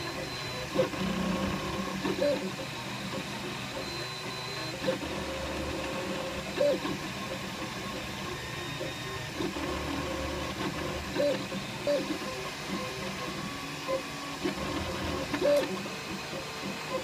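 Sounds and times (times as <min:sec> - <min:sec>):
pitched printer chirps: 0:00.0 - 0:17.0
steady printer hum: 0:00.0 - 0:17.0
stepper motors whirring: 0:00.0 - 0:17.0.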